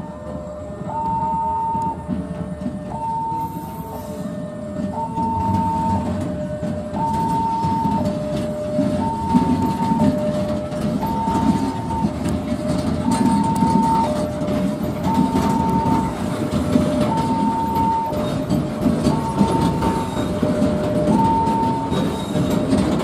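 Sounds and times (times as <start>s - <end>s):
train wagons clattering over rails: 0.0s - 23.0s
two-tone crossing alarm: 0.0s - 23.0s.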